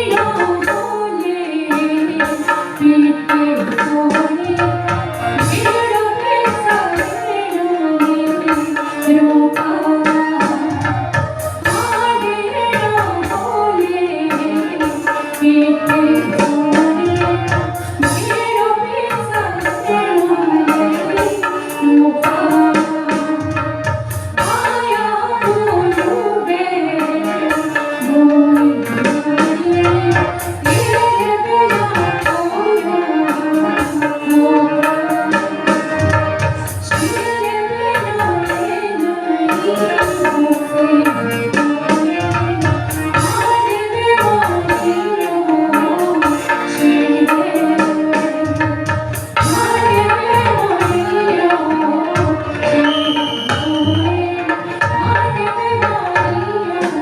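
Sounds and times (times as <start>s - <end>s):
folk melody: 0.0s - 57.0s
steady drum rhythm: 0.0s - 57.0s.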